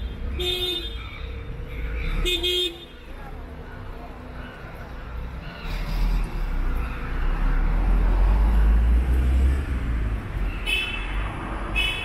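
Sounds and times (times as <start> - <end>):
passing vehicles rumble: 0.0 - 12.0.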